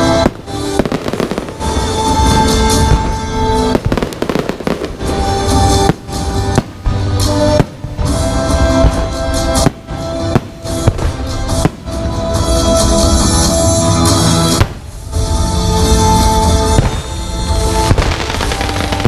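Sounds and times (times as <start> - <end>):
fireworks bangs and crackling: 0.0 - 19.0
loud music playing: 0.0 - 19.0.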